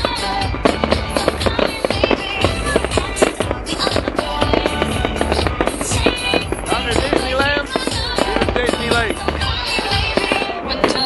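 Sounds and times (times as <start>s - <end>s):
fireworks bursting and crackling: 0.0s - 11.0s
loud show music with bass: 0.0s - 11.0s.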